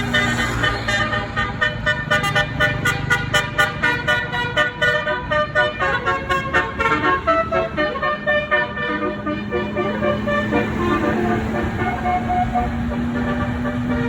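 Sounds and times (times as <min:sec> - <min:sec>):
bus engine running: 0:00.0 - 0:14.0
musical air horn playing a tune: 0:00.0 - 0:14.0.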